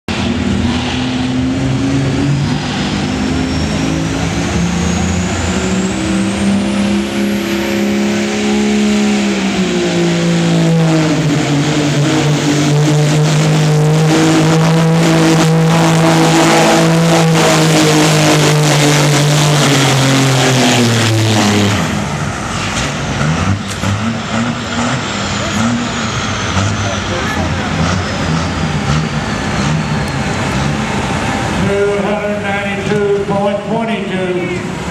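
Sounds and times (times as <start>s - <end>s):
diesel truck engine at full throttle: 0.0s - 34.9s.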